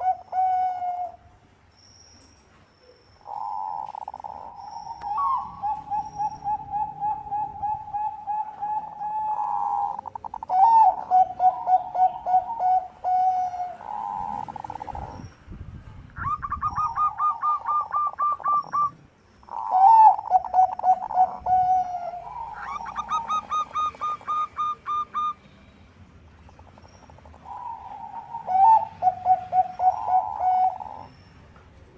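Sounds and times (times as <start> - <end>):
doves cooing: 0.0 - 1.2, 3.2 - 15.3, 16.2 - 25.4, 26.5 - 31.2.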